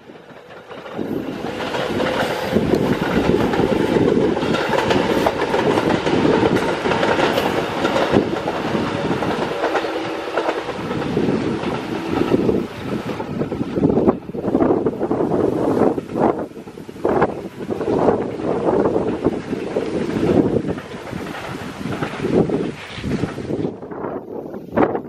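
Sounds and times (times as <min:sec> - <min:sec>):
train wheels clattering over rails: 0:00.0 - 0:24.2.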